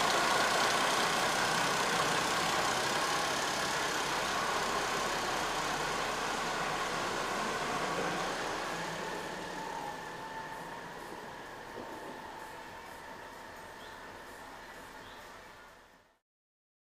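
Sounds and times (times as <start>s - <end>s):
tractor diesel engine driving away: 0.0s - 16.1s.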